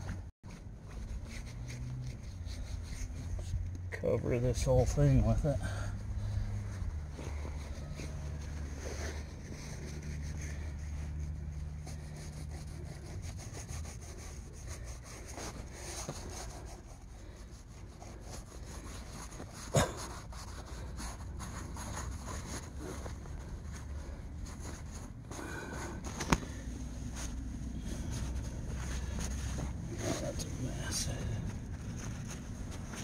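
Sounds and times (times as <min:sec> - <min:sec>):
hand rubbing glue on canvas: 0:00.9 - 0:33.0.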